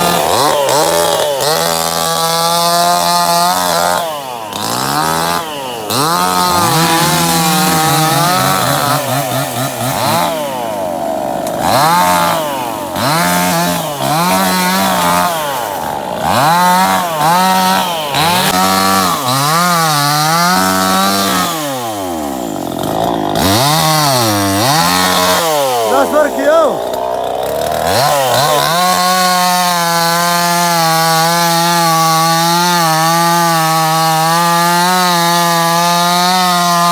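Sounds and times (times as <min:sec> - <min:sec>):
engine revving: 0:00.0 - 0:36.9.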